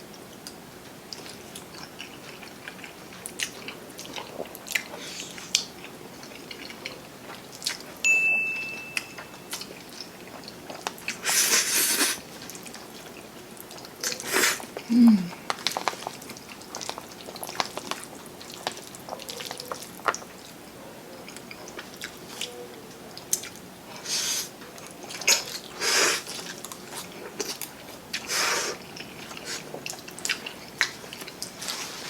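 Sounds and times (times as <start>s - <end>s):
chewing and mouth clicks: 0.1s - 8.0s, 9.0s - 20.6s, 21.2s - 23.7s, 24.6s - 31.9s.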